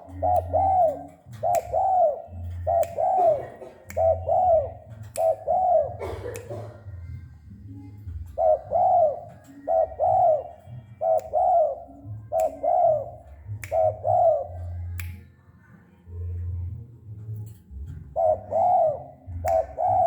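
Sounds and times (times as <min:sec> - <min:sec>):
dove cooing: 0:00.0 - 0:15.0, 0:17.6 - 0:20.0.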